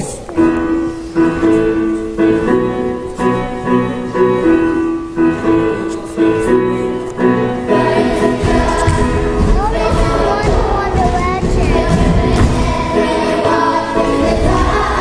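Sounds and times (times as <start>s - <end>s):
piano chords on keyboard: 0.0s - 15.0s.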